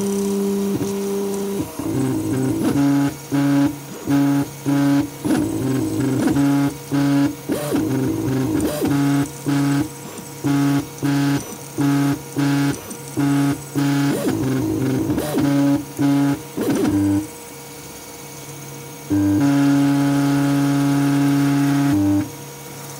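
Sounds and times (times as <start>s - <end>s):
stepper motors whining: 0.0s - 17.3s, 19.1s - 22.9s.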